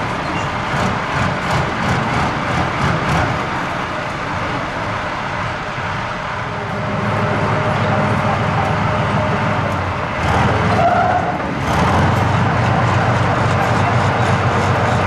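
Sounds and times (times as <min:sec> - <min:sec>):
tank diesel engine running: 0:00.0 - 0:15.0.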